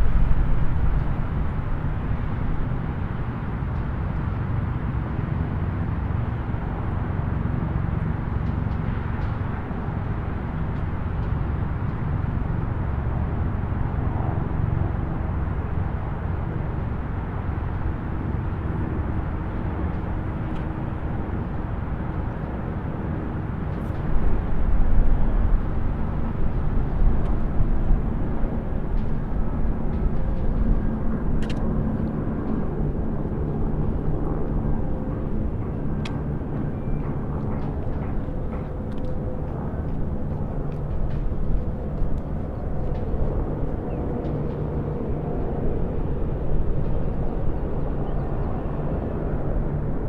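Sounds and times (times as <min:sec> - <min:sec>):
distant highway traffic rumble: 0:00.0 - 0:50.0.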